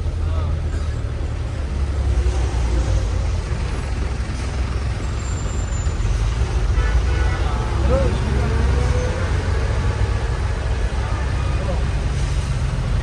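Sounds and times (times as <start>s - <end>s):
bus engine rumble: 0.0s - 13.0s
road noise: 0.0s - 13.0s.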